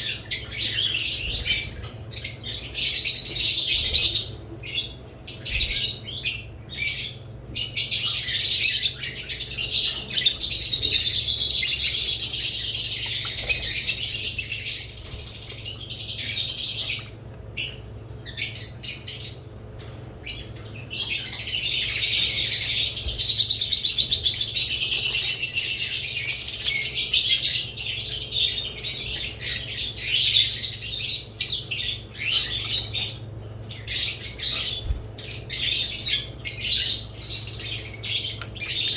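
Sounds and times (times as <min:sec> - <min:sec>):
pet birds chirping and chattering: 0:00.0 - 0:38.9.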